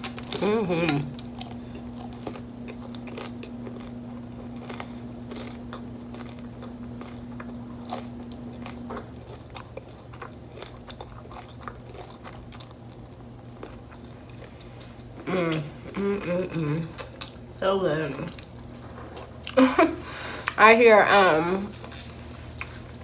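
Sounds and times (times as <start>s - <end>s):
chewing crunchy taco shell: 0.0s - 17.6s, 21.7s - 23.0s
steady low hum: 0.0s - 23.0s.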